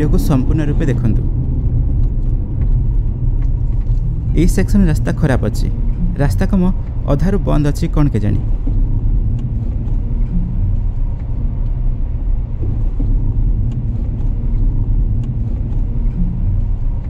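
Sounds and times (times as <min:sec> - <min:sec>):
car tyres and engine rumble: 0:00.0 - 0:17.0.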